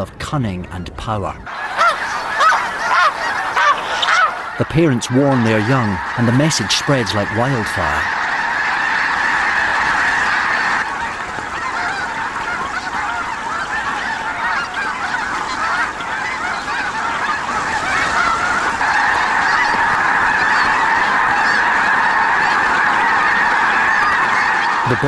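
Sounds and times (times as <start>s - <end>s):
geese honking: 1.5s - 25.0s.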